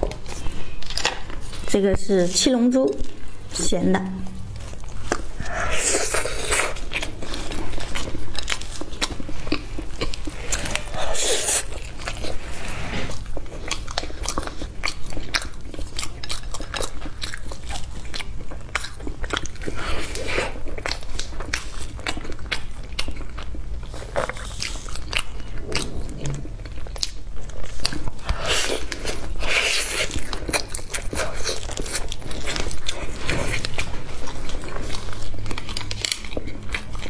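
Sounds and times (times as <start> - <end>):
chewing sticky food: 0.0 - 37.0.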